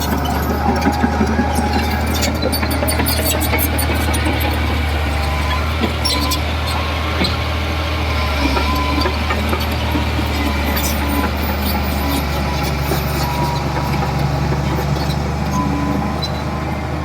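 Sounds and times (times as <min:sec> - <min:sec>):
diesel machine engine droning: 0:00.0 - 0:17.0.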